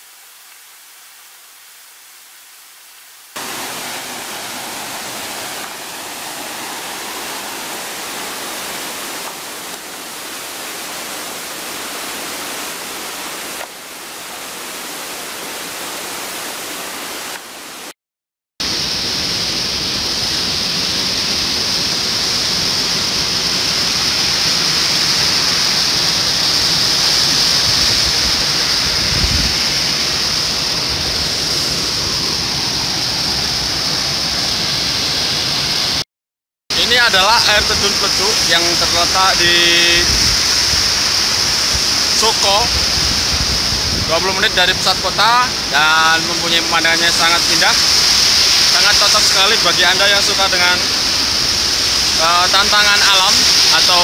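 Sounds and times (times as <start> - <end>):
waterfall rushing and splashing: 3.3 - 17.9, 18.6 - 36.0, 36.7 - 54.0.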